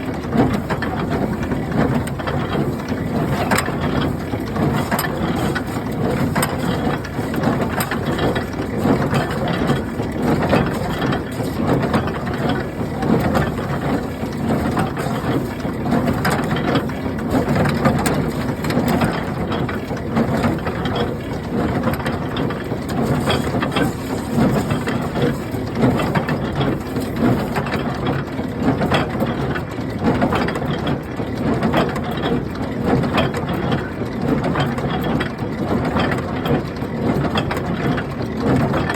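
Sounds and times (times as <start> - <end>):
hay baler clattering: 0.0 - 38.9.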